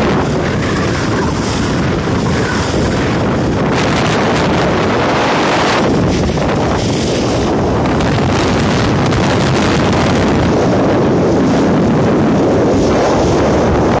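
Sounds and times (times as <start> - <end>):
wind blowing across microphone: 0.0 - 14.0.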